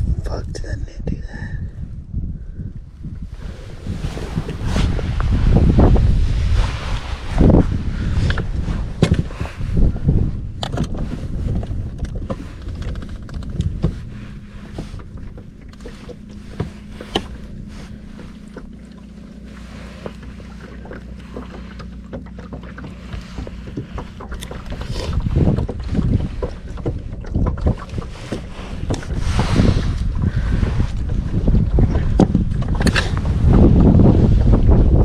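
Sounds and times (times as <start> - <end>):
low hum: 0.0 - 35.0
wind buffeting microphone: 0.0 - 35.0.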